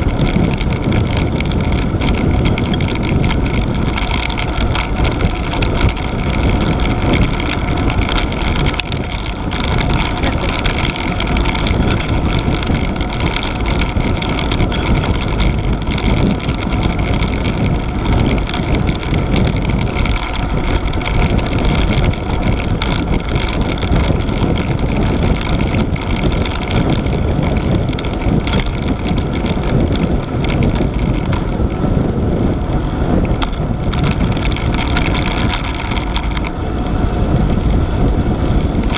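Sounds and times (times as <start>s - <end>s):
tyres on tarmac: 0.0s - 38.9s
wind buffeting microphone: 0.0s - 38.9s.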